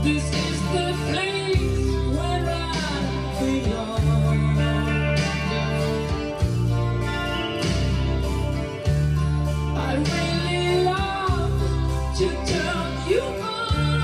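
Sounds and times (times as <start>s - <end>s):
song with singing and guitar: 0.0s - 14.0s.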